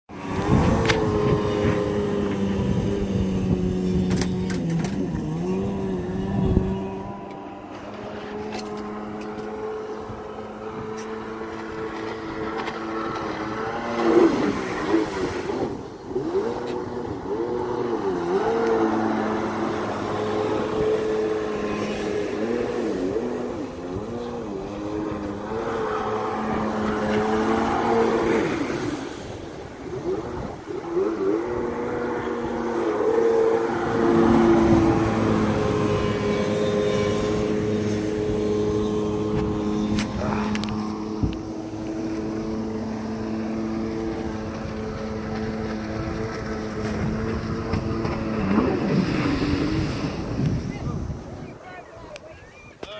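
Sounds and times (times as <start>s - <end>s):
jet ski engine running hard: 0.1s - 52.9s.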